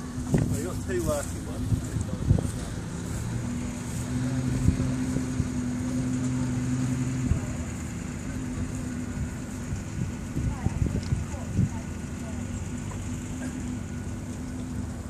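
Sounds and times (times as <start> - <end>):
vehicle engine driving past: 0.0 - 15.0.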